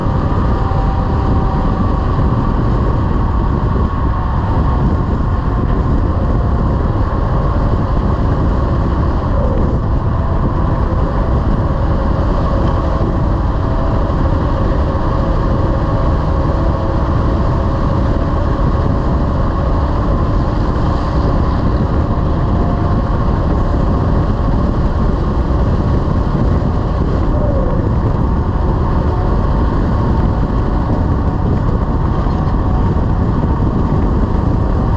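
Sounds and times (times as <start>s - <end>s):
road noise: 0.0s - 34.9s
truck engine drone: 0.0s - 34.9s.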